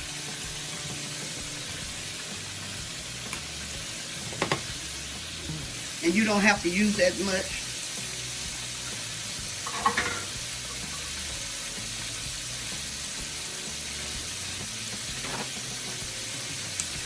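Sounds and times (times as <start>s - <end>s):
pork frying in hot oil: 0.0s - 17.0s.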